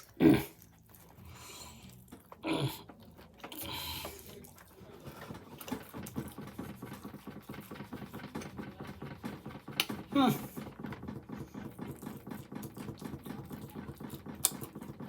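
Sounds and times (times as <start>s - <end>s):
person chewing food: 0.0s - 8.6s, 9.2s - 15.0s.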